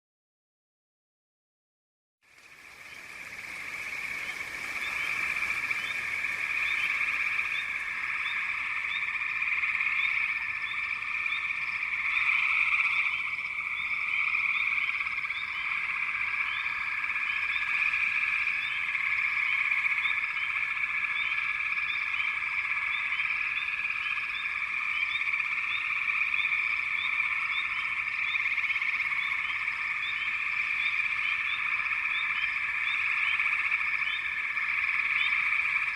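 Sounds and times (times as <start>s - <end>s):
chorus of frogs calling: 2.4s - 35.9s
quick short frog chirps: 2.4s - 35.9s.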